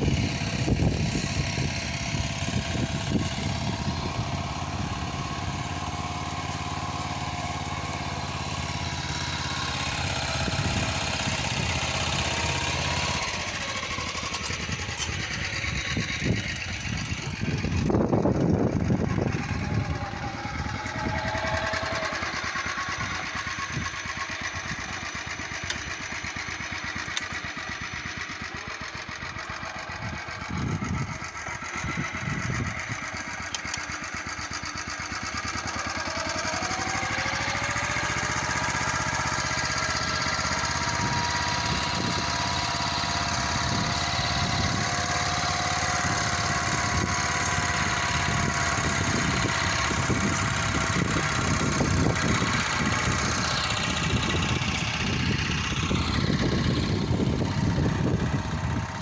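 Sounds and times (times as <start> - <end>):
walk-behind tractor engine running: 0.0 - 59.0.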